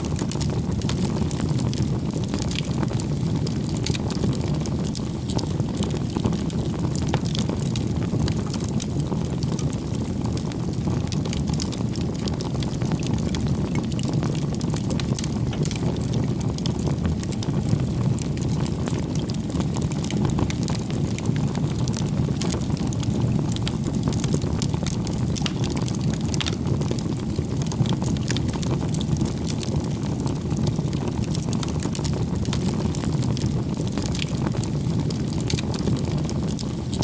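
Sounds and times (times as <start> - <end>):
campfire burning and crackling: 0.0 - 37.0.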